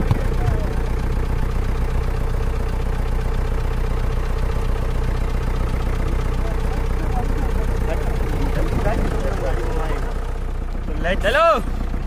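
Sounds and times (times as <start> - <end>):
jeep engine idling: 0.0 - 12.0.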